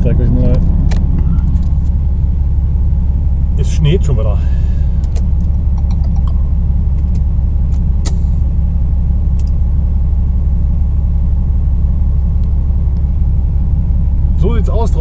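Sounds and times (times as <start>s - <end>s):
diesel truck engine rumble: 0.0s - 15.0s.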